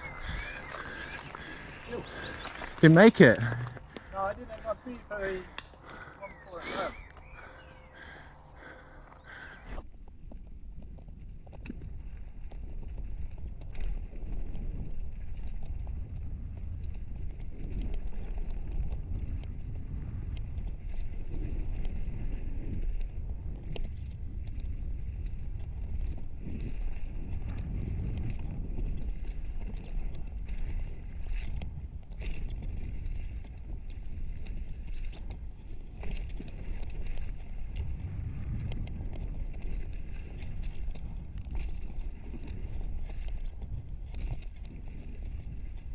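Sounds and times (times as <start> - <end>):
wind and tyres rumbling: 0.0 - 45.9
bike clicks and rattles: 7.1 - 45.9.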